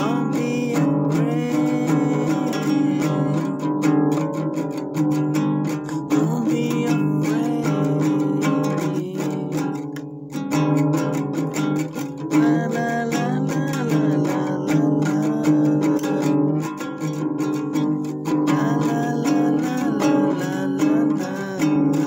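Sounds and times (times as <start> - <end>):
strummed acoustic guitar: 0.0 - 22.0
young man singing: 0.0 - 22.0.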